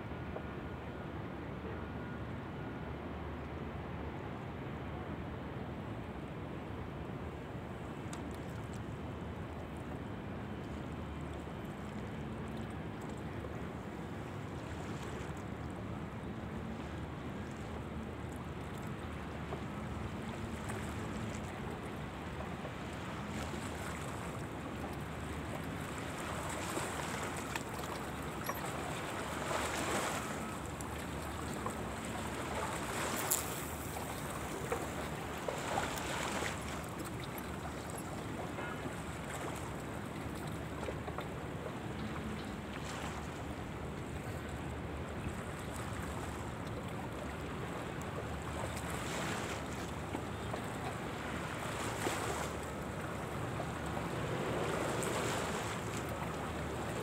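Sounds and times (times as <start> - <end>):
gentle waves lapping: 7.6 - 57.0.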